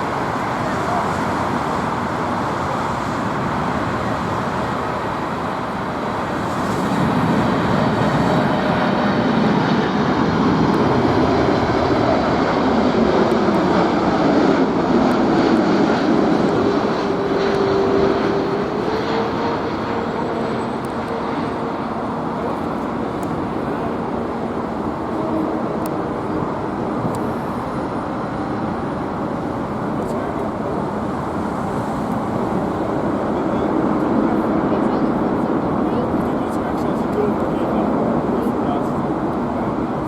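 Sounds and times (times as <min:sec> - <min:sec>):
jet plane passing by: 0:00.0 - 0:40.0.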